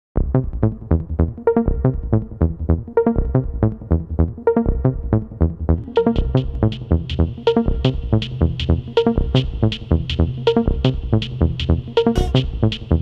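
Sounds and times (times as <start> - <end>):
electronic music with quick beat: 0.3 - 13.0.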